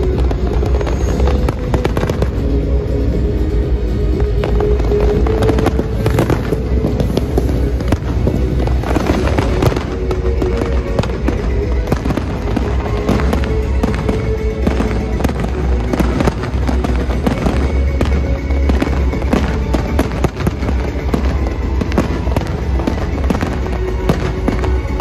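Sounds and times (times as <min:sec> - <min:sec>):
fireworks cracks and bangs: 0:00.0 - 0:25.0
music playing: 0:00.0 - 0:25.0.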